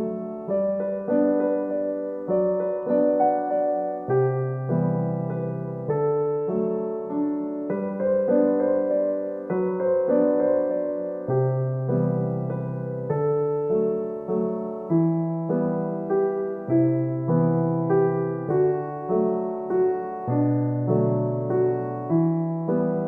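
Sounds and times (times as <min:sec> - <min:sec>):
electric piano chords: 0:00.0 - 0:23.0.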